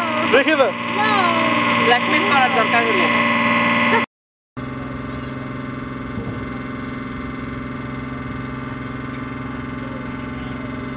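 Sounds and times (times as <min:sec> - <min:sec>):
boat engine droning: 0:00.0 - 0:10.9.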